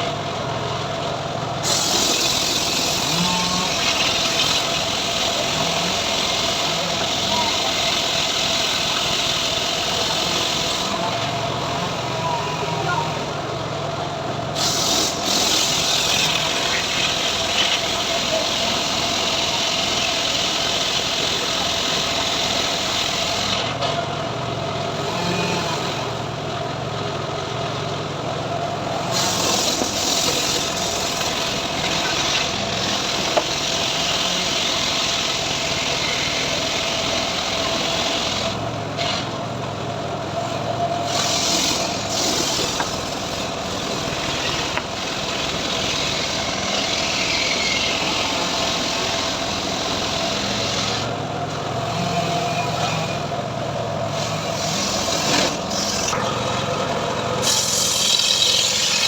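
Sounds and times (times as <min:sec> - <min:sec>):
sawmill humming and whining: 0:00.0 - 0:59.0.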